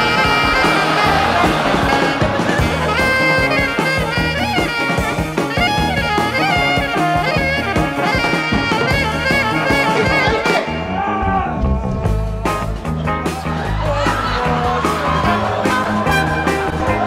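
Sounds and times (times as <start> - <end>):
lively music with sliding melody: 0.0 - 17.0
steady drum beat: 0.0 - 17.0.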